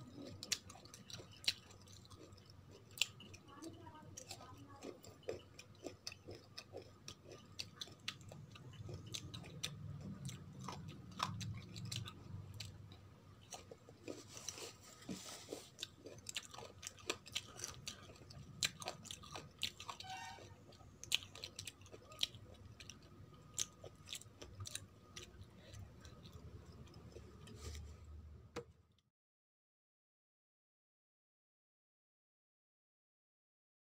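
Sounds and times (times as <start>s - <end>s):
crunchy chewing: 0.0s - 28.0s.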